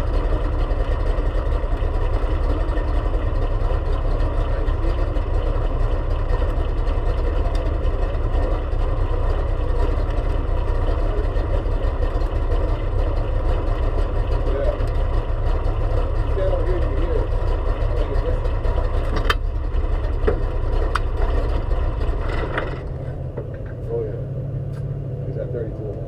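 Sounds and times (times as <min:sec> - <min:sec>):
race car engine idling: 0:00.0 - 0:26.0.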